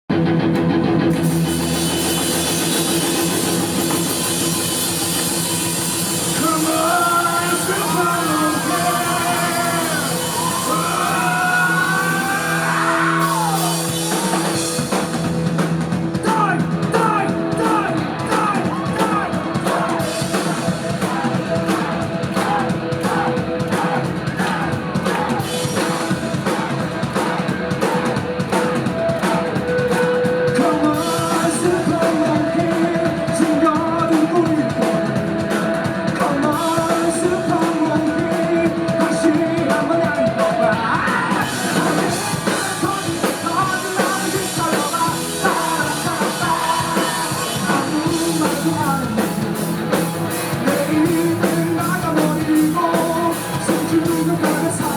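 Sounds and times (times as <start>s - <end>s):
drum kit: 0.1s - 54.9s
rock band playing live: 0.1s - 54.9s
lead singer: 1.2s - 54.9s.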